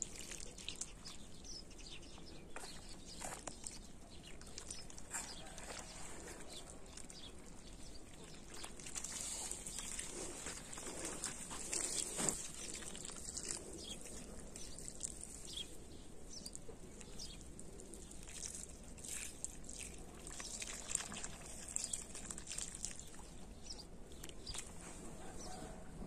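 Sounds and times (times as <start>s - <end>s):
water from hose splashing: 0.0s - 1.9s, 2.7s - 24.9s.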